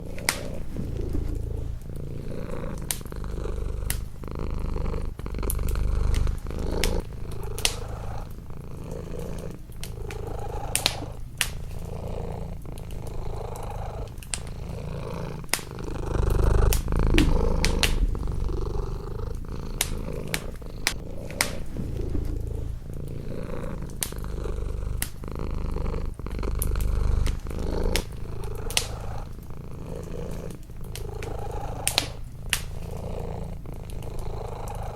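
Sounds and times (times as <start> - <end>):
wood fire crackling: 0.0 - 34.7
cat purring: 0.0 - 34.9.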